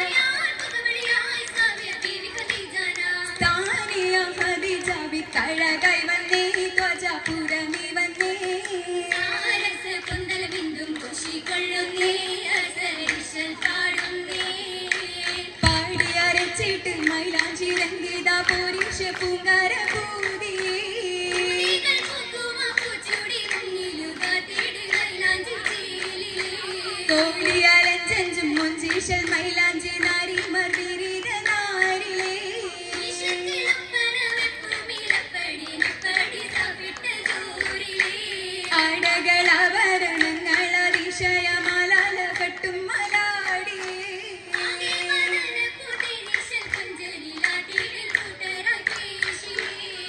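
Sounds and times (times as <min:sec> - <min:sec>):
girls singing: 0:00.0 - 0:50.0
rhythmic hand clapping: 0:00.0 - 0:50.0.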